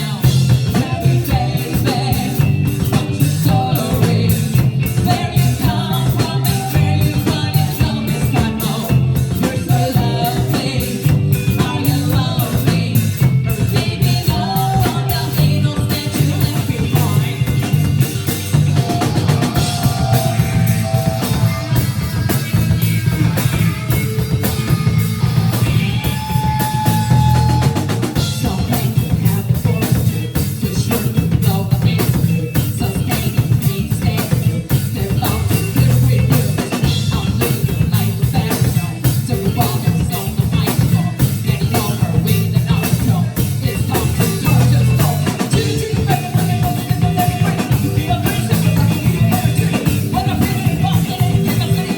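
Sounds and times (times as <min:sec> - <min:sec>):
drum kit kick and snare beat: 0:00.0 - 0:51.9
live rock band playing: 0:00.0 - 0:51.9.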